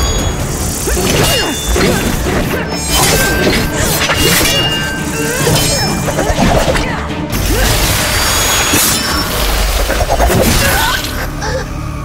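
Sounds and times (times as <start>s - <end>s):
dramatic orchestral score: 0.0s - 12.0s.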